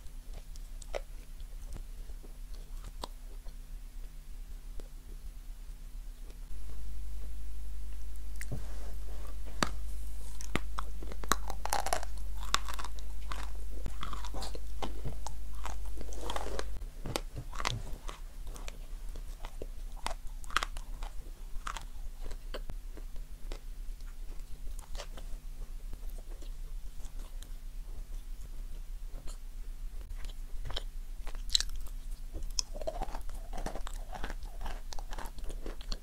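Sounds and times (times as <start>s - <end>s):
crunchy chewing: 0.0s - 5.3s, 7.9s - 29.4s, 30.0s - 36.0s
steady low hum: 0.0s - 36.0s.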